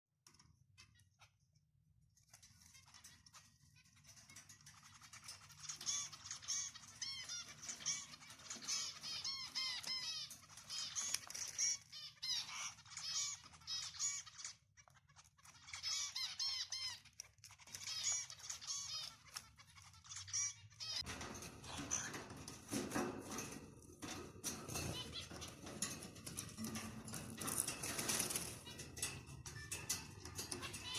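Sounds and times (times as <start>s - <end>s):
cockatiels chirping: 2.3s - 30.9s.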